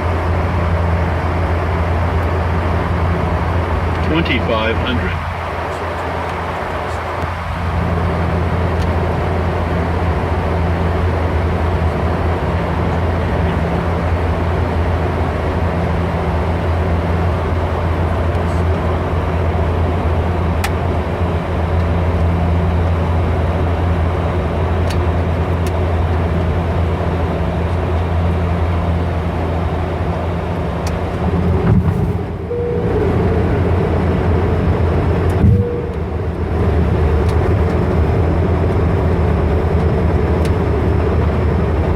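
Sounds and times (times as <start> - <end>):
turboprop engine drone: 0.0 - 41.9.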